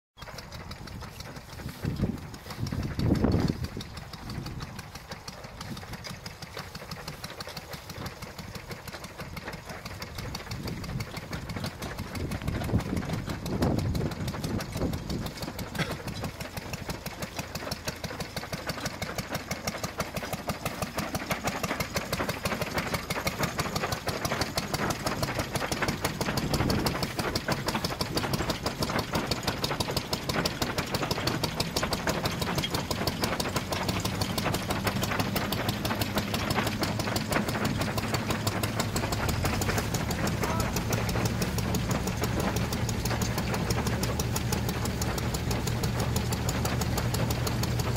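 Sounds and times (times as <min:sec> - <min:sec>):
steady engine drone: 0:00.2 - 0:47.9
threshing machine clatter: 0:00.2 - 0:47.9.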